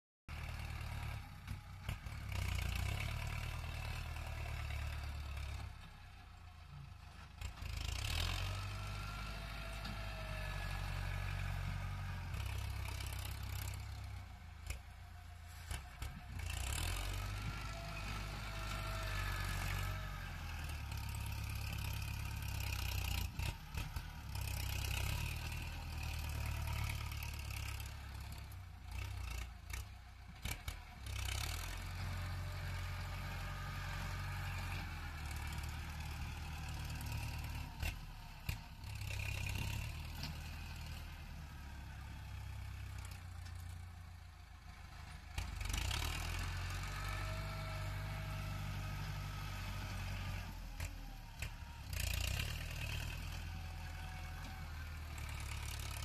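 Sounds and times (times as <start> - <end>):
tractor diesel engine working hard: 0.3 - 56.0.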